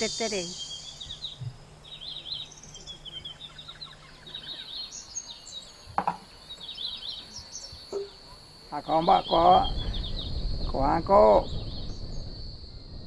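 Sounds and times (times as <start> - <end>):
high insect drone: 0.0 - 13.0
small birds chirping: 0.0 - 13.0.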